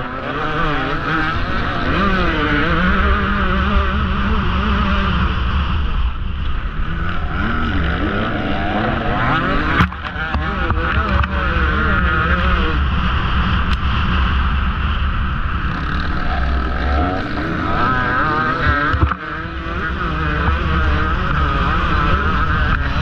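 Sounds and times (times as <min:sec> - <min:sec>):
dirt bike engine revving: 0:00.0 - 0:23.0
wind rumble on microphone: 0:00.0 - 0:23.0.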